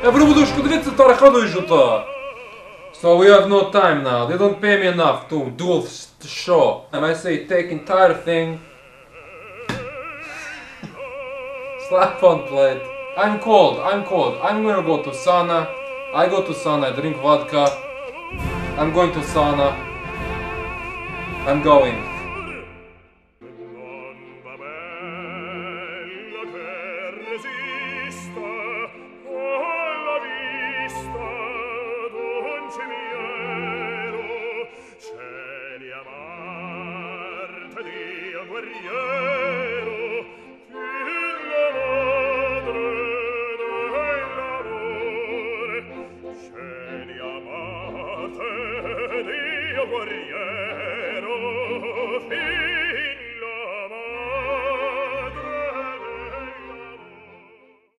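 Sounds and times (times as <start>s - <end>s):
instrumental accompaniment: 0.0s - 2.9s, 8.1s - 53.4s
operatic singer with vibrato: 0.0s - 57.9s.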